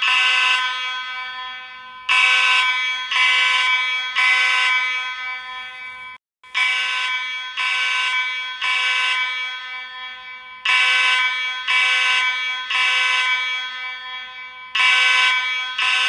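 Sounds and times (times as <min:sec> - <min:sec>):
fire alarm horn blasts: 0:00.0 - 0:16.0.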